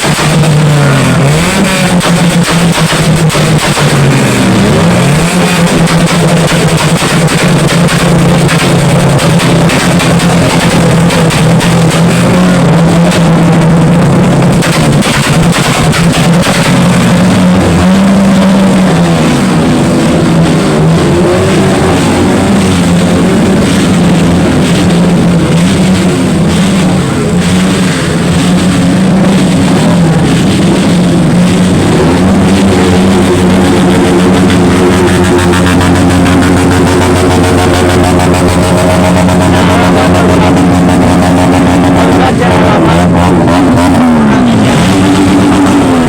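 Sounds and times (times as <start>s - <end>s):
car engine revving loudly: 0.0s - 46.0s
exhaust crackling: 0.0s - 46.0s.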